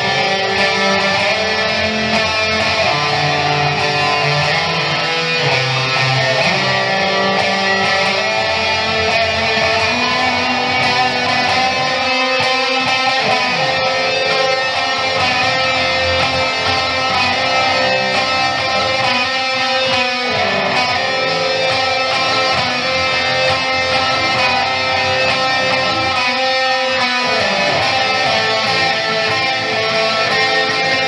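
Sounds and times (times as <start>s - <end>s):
electric guitar picking notes: 0.0s - 31.0s.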